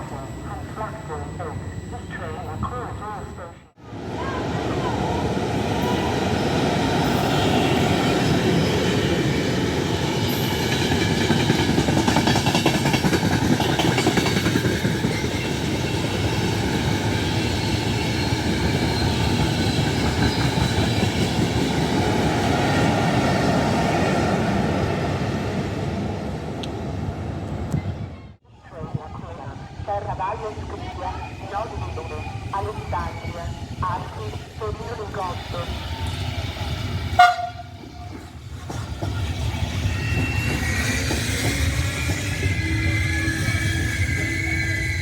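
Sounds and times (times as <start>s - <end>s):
train rumbling on rails: 0.0s - 45.0s.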